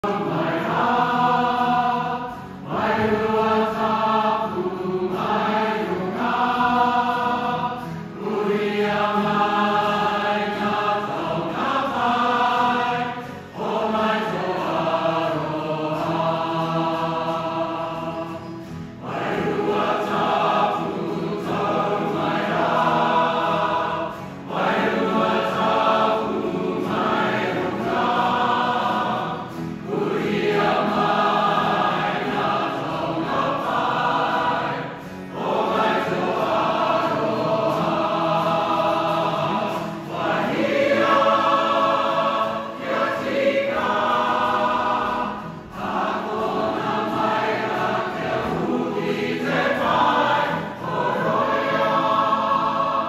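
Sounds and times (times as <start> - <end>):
mixed choir singing a hymn: 0.0 - 53.0.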